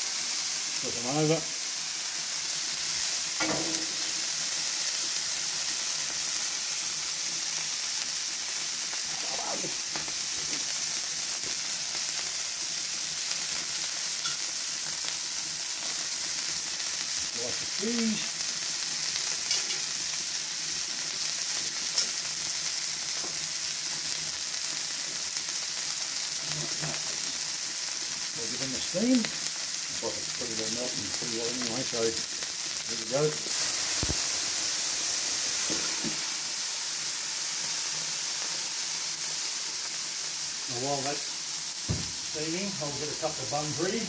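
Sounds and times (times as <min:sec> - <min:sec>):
burger patties sizzling on griddle: 0:00.0 - 0:44.0.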